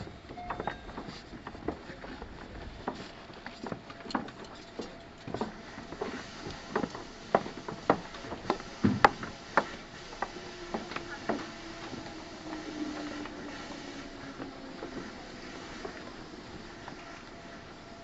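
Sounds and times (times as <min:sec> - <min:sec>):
steady train hum: 0:00.0 - 0:18.0
train wheels clicking over rail joints: 0:00.0 - 0:18.0.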